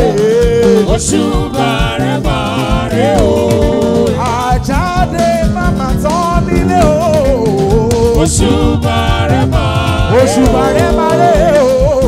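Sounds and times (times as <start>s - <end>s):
drums keeping a steady beat: 0.0s - 12.0s
wavering lead melody: 0.0s - 12.0s.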